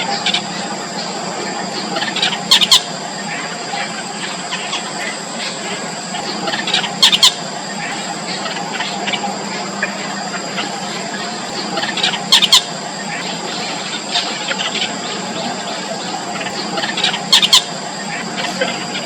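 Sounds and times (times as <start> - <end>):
nestlings squealing: 0.0 - 19.0
steady high-pitched hum: 0.0 - 19.0.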